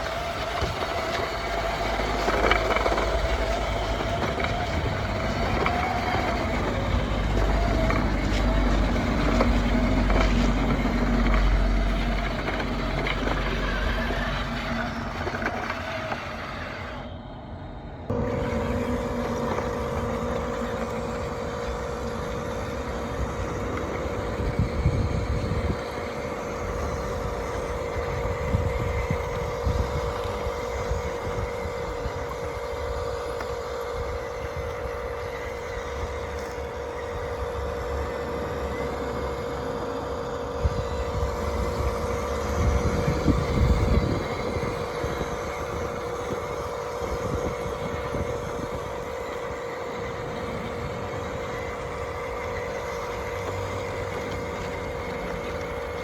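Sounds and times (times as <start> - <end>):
toy motors whining: 0.0 - 17.4, 18.0 - 56.0
low rumbling: 0.0 - 56.0.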